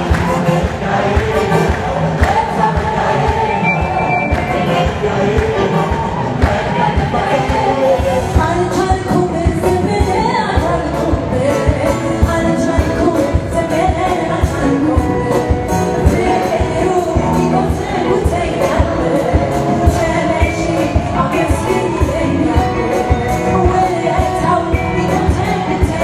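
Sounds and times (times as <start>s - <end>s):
steady drum beat: 0.0s - 26.0s.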